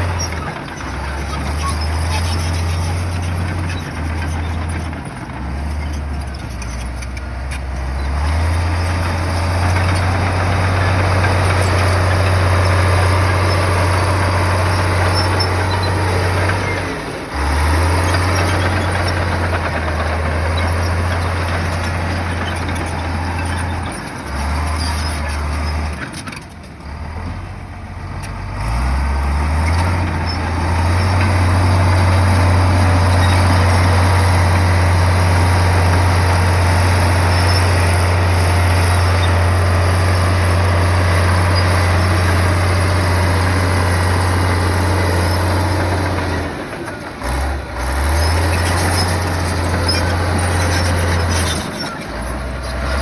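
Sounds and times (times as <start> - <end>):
heavy diesel engine working: 0.0 - 53.0.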